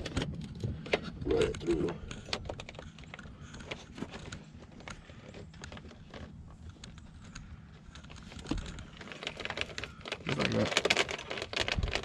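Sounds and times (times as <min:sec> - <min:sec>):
wires rustling and clicking: 0:00.0 - 0:12.0.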